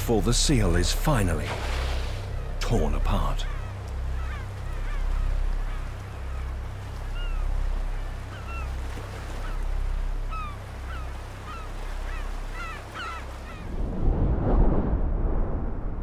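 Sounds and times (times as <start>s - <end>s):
birds calling: 0.0s - 13.7s
low rumble of surf: 0.0s - 16.0s.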